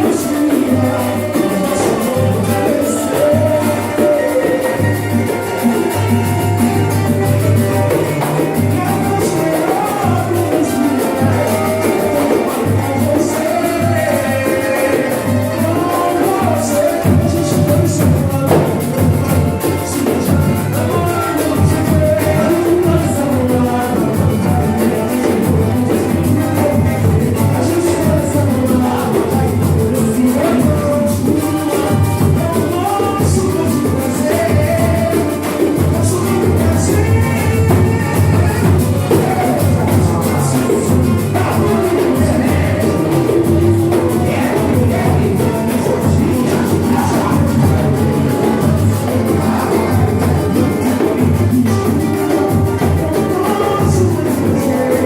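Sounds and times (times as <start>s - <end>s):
band playing upbeat music: 0.0s - 55.0s
quick even drum beat: 0.0s - 55.0s.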